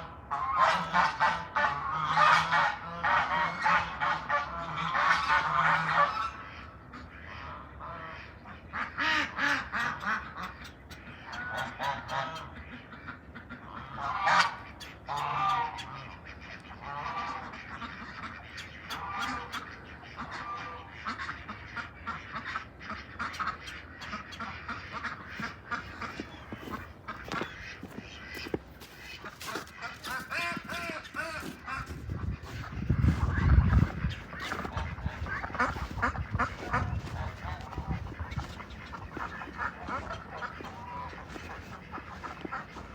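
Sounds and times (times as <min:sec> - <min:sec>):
waterfowl honking and calling: 0:00.0 - 0:42.9.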